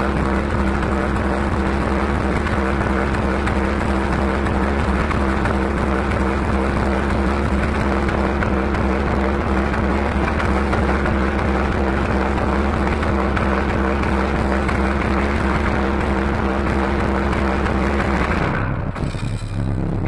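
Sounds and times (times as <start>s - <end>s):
distorted bass-heavy dance music: 0.0s - 20.0s.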